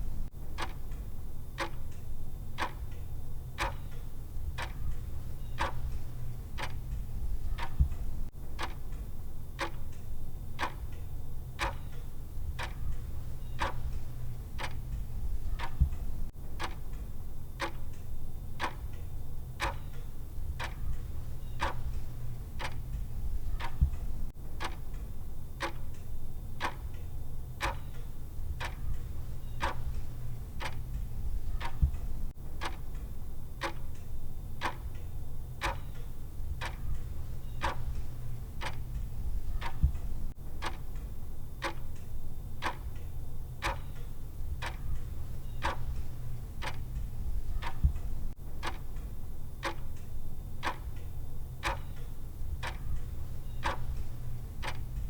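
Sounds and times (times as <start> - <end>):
timer ticking: 0.0 - 55.0.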